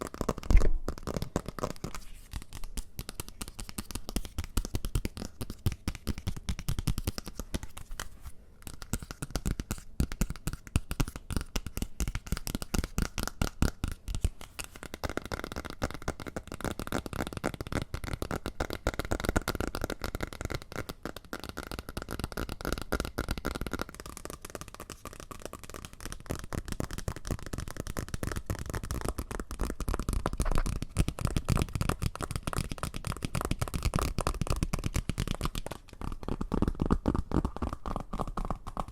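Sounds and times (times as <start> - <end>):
rapid tapping and scratching: 0.0 - 38.9.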